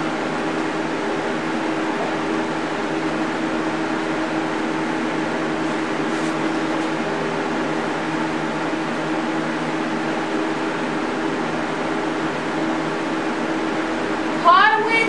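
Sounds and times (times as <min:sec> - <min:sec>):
fan rushing noise: 0:00.0 - 0:15.0
motor hum: 0:00.0 - 0:15.0.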